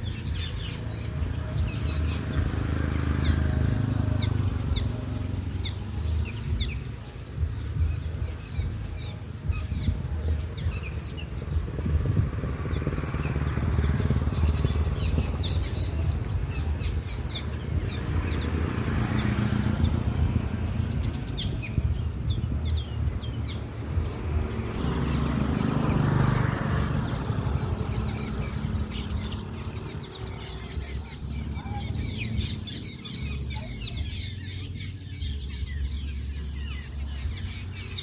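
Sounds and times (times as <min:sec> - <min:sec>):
birds chirping: 0:00.0 - 0:38.0
passing vehicles rumbling: 0:00.0 - 0:38.0.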